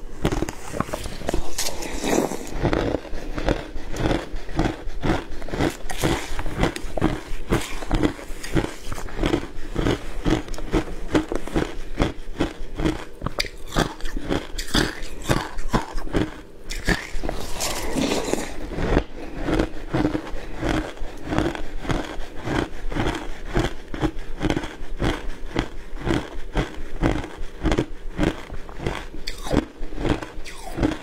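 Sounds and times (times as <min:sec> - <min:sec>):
ice crunched between teeth: 0:00.0 - 0:31.0.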